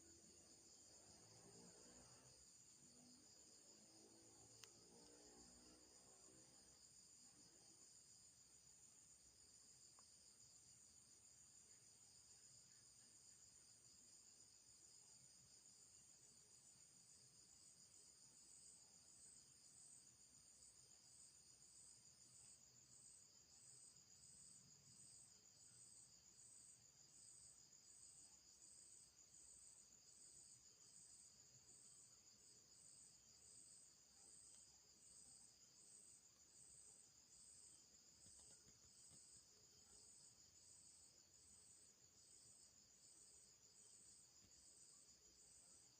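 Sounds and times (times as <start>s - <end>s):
faint high insect chirring: 0.0s - 45.9s.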